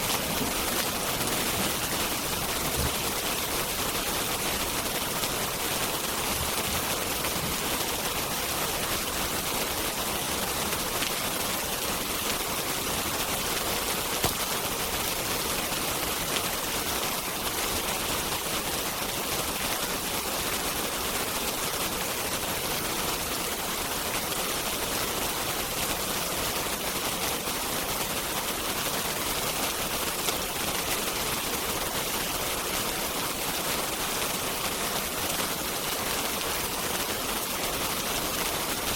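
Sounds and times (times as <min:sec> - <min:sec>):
wood fire crackling: 0:00.0 - 0:22.6, 0:25.6 - 0:38.9
heavy rain hiss: 0:00.0 - 0:38.9.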